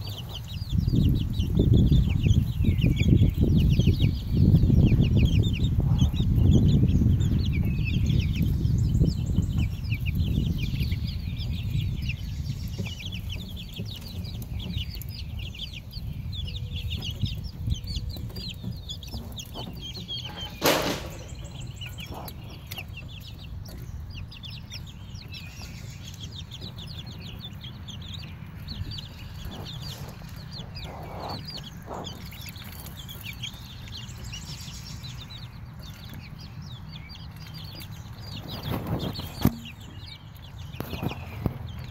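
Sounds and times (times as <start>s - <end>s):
chicks and ducklings peeping: 0.0s - 41.9s
low rumbling noise: 0.0s - 41.9s.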